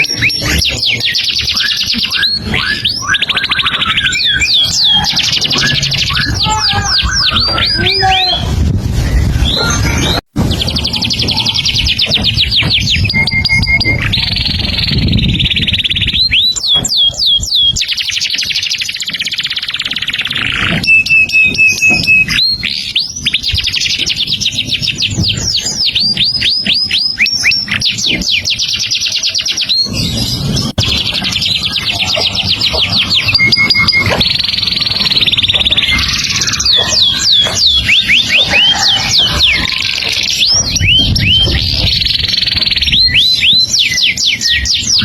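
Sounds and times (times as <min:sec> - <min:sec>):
songbird singing: 0:00.0 - 0:45.0.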